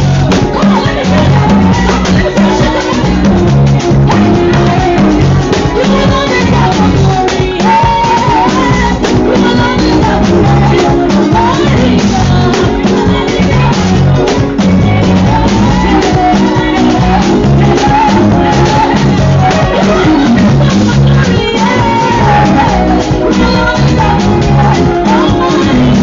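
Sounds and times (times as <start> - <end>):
loud music with drum beat: 0.0 - 26.0.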